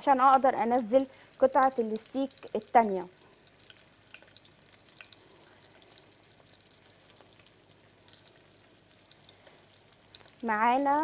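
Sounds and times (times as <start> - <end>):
steak sizzling in a pan: 0.6 - 11.0.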